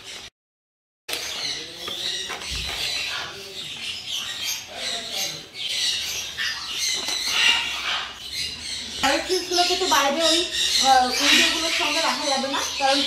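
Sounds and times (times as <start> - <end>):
birds squawking and chirping: 0.0 - 0.3, 1.1 - 13.0.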